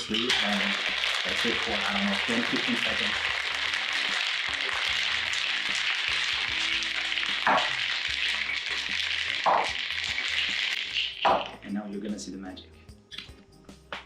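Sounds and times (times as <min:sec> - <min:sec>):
ice rattling in cocktail shaker: 0:00.0 - 0:11.8
faint music: 0:00.0 - 0:14.0.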